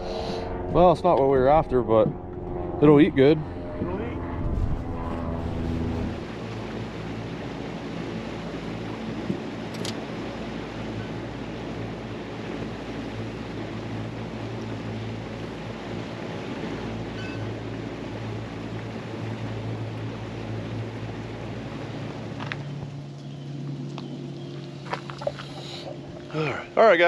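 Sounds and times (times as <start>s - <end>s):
boat engine humming: 0.0s - 27.0s
water noise: 0.0s - 27.0s
wind: 0.0s - 27.0s.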